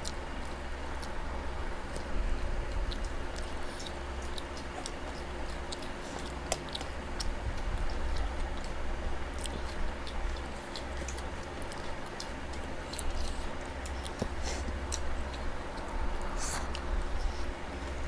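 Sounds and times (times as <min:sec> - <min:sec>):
people chewing and eating: 0:00.0 - 0:18.0
steady low hum: 0:00.0 - 0:18.0.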